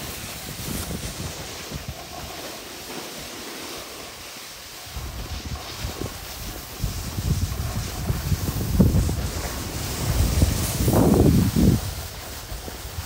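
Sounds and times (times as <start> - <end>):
wind buffeting microphone: 0.0 - 2.4, 4.8 - 13.0
snowboard scraping over snow: 0.0 - 13.0.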